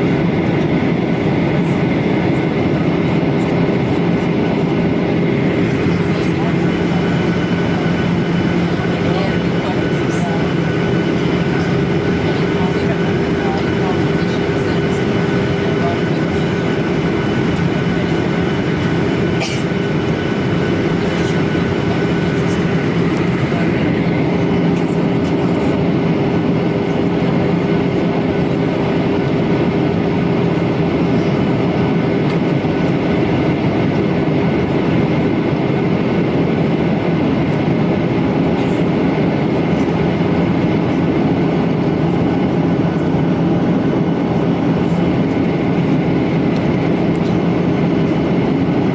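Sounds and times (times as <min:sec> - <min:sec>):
airplane cabin engine drone: 0:00.0 - 0:48.9.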